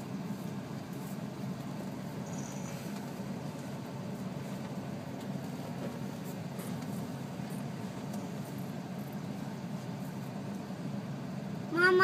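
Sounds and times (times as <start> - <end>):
vehicle idling hum: 0.0 - 12.0.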